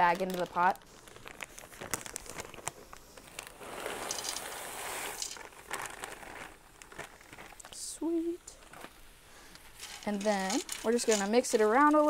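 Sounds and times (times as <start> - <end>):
corn kernels clicking: 0.0 - 7.8, 9.5 - 12.0
plastic bag crinkling: 0.0 - 12.0.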